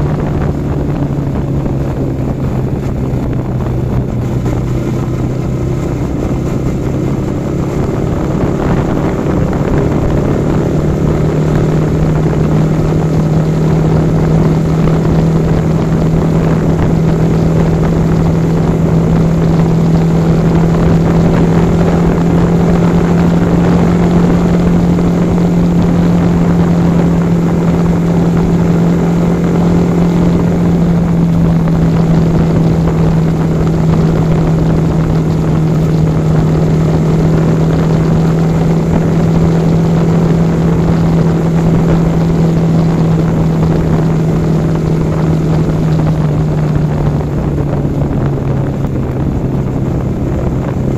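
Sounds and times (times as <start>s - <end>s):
motorcycle engine droning: 0.0s - 50.9s
wind rushing over microphone: 0.0s - 50.9s.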